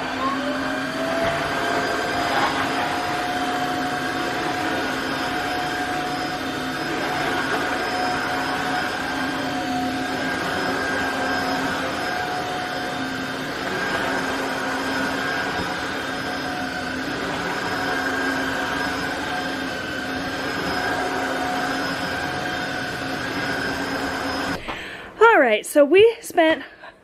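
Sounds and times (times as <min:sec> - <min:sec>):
vacuum mop motor whirring: 0:00.0 - 0:24.8.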